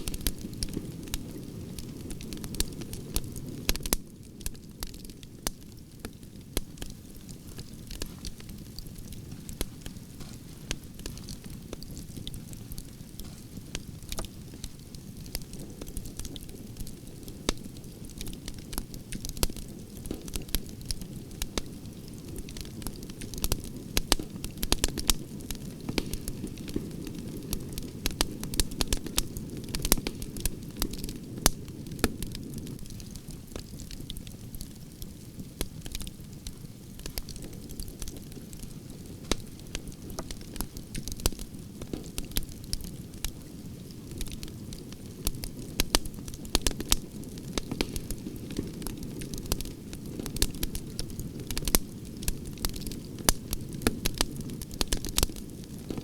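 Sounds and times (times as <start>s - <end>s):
burning wood crackling and popping: 0.0s - 56.0s
campfire flames rushing: 0.0s - 56.0s.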